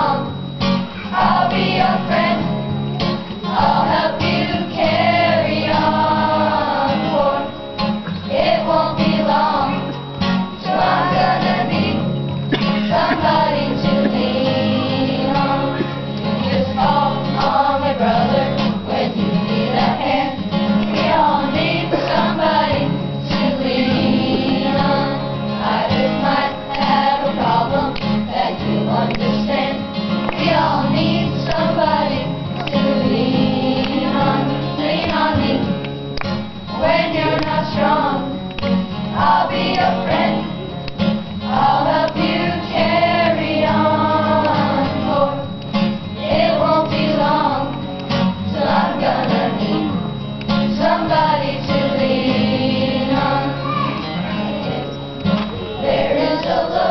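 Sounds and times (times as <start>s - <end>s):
acoustic guitar: 0.0s - 56.9s
children's choir singing: 0.0s - 56.9s.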